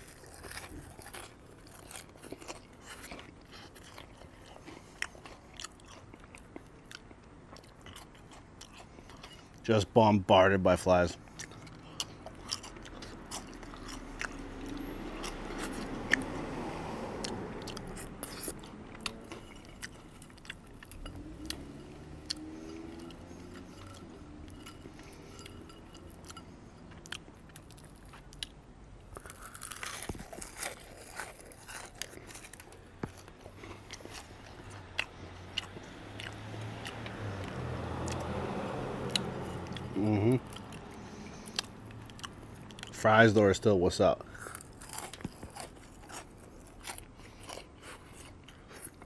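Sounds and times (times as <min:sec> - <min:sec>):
chewing and crunching fries: 0:00.0 - 0:49.0.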